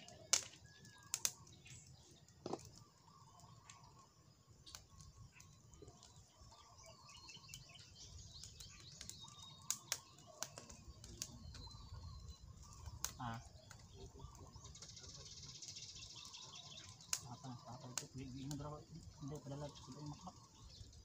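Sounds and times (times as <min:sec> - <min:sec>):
birds chirping: 0:00.0 - 0:21.0
twig fire crackling: 0:00.0 - 0:21.0.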